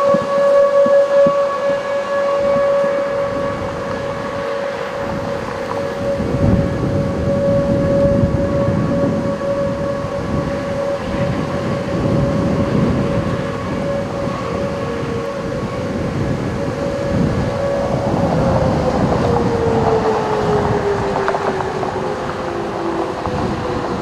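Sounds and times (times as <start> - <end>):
passing traffic: 0.0 - 24.0
warning siren winding down: 0.0 - 24.0
wind rumble: 0.0 - 24.0.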